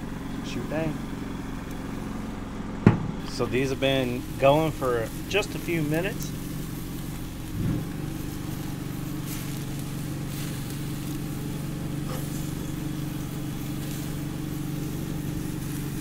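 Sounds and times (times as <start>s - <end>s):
engine hum: 0.0s - 16.0s.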